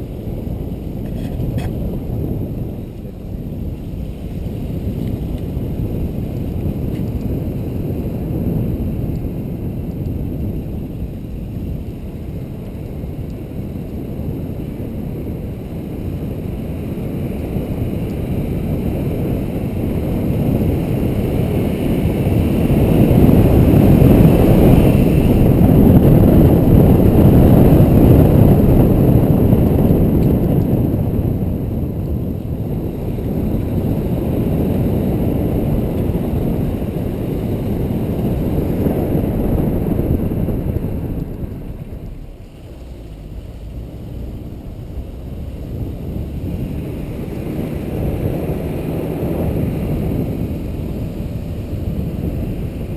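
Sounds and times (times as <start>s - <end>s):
car road and engine rumble: 0.0s - 52.9s
wind rushing over microphone: 0.0s - 52.9s.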